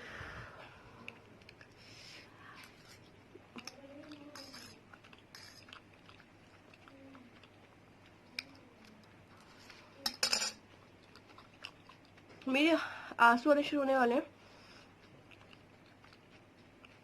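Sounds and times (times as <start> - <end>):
person chewing noodles: 0.8 - 10.0, 10.6 - 12.5, 14.4 - 17.0.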